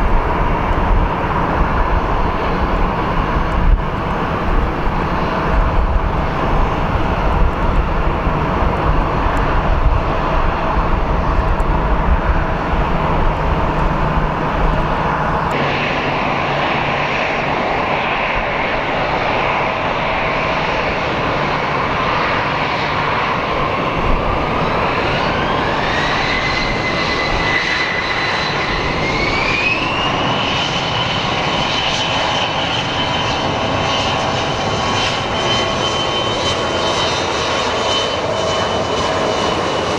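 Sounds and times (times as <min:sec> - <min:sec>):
jet engine deep rumble: 0:00.0 - 0:39.9
jet engines spooling up whine: 0:00.0 - 0:39.9.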